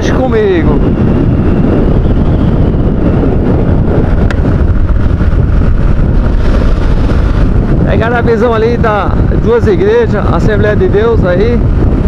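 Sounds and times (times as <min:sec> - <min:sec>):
motorcycle engine: 0:00.0 - 0:12.0
wind buffeting microphone: 0:00.0 - 0:12.0.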